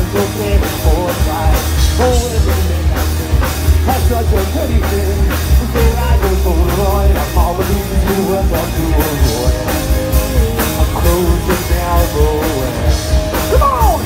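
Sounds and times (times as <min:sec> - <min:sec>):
bass guitar: 0:00.0 - 0:14.0
distorted electric guitars: 0:00.0 - 0:14.0
drum kit: 0:00.0 - 0:14.0
person singing: 0:00.0 - 0:14.0.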